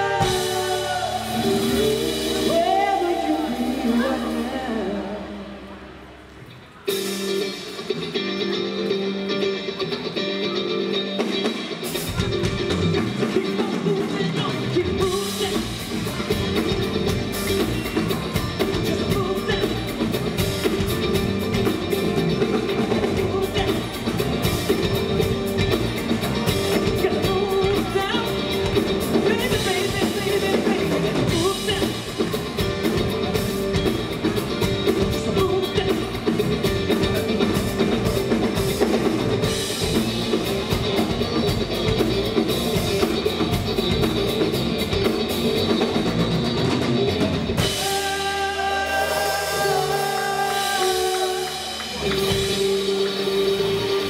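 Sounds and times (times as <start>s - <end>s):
drum kit: 0.0s - 5.0s, 6.7s - 54.0s.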